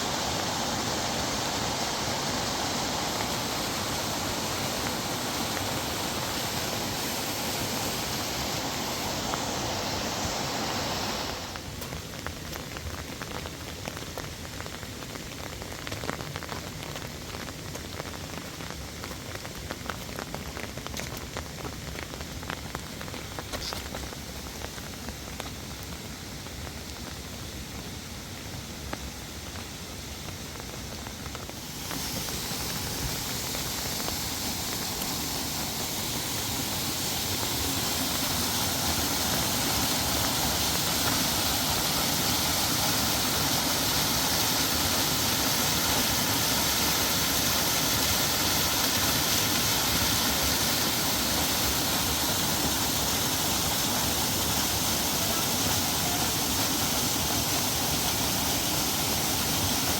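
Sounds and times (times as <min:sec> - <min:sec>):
heavy rain hiss: 0:00.0 - 0:59.9
raindrops ticking on surfaces: 0:00.0 - 0:59.9.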